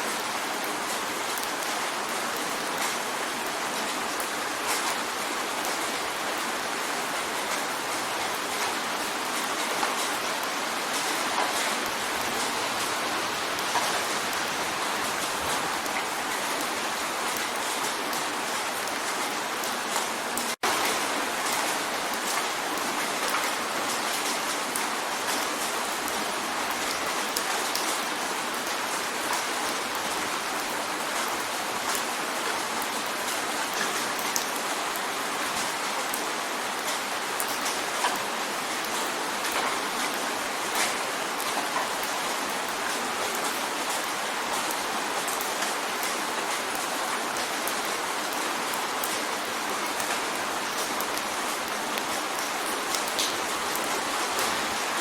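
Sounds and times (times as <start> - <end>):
rain drumming on a window: 0.0 - 55.0.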